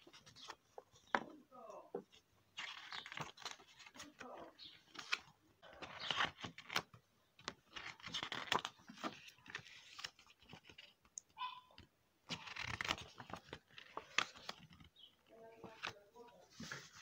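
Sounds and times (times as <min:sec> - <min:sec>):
paper pages rustling: 0:00.0 - 0:01.2, 0:02.0 - 0:11.1, 0:12.2 - 0:17.0.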